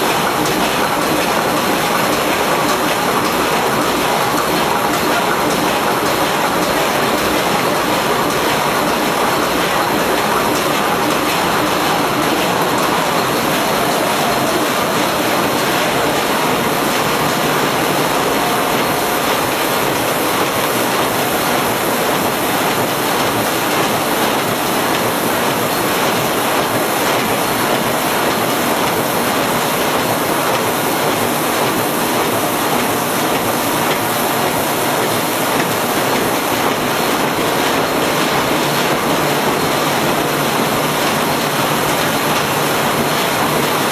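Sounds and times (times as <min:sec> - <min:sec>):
printing machine mechanical din: 0:00.0 - 0:43.9.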